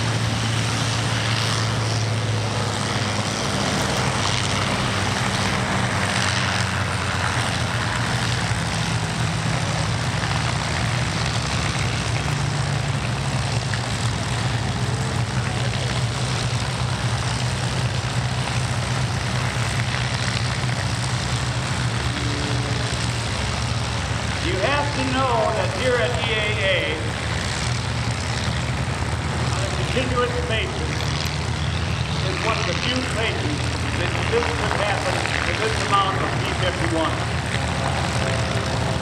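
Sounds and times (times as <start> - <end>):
propeller aircraft engines droning: 0.0 - 39.0.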